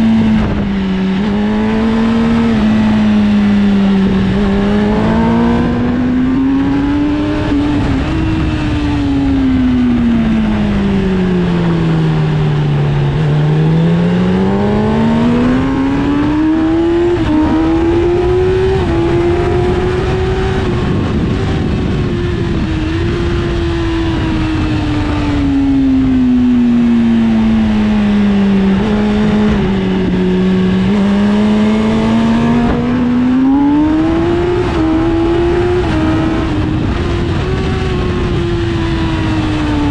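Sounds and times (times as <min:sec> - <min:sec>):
heavy wind rush: 0:00.0 - 0:39.9
motorcycle engine revving: 0:00.0 - 0:39.9.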